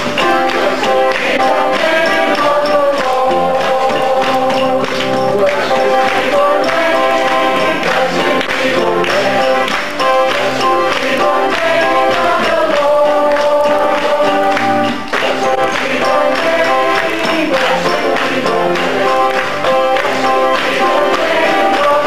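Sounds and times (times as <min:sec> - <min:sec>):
electric keyboard: 0:00.0 - 0:22.0
men singing gospel: 0:00.0 - 0:22.0
percussion beat: 0:00.0 - 0:22.0.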